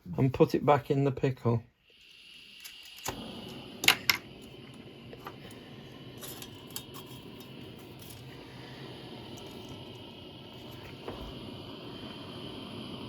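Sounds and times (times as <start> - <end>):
gas torch hissing: 1.2 - 13.0.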